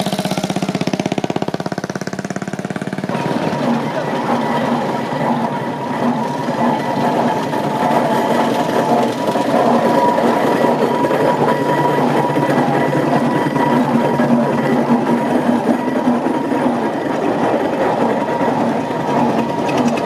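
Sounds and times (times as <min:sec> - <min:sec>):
steam traction engine clattering: 0:00.0 - 0:20.0.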